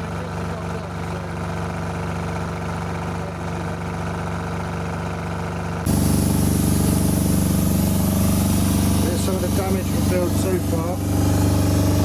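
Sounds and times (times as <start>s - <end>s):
air compressor running: 0.0s - 12.0s
diesel generator running: 0.0s - 12.0s.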